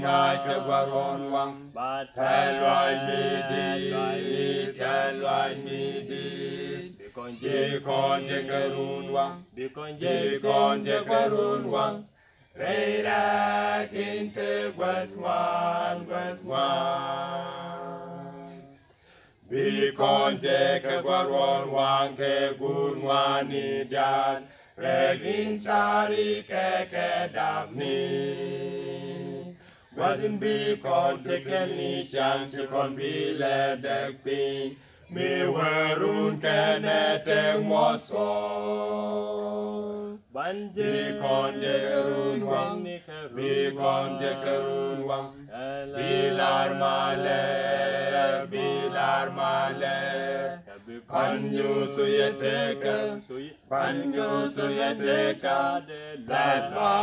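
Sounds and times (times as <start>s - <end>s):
male vocal quartet singing: 0.0s - 57.0s.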